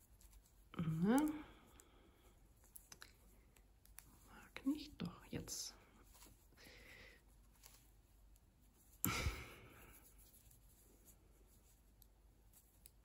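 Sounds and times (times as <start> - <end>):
rustle of yarn: 0.0 - 13.0.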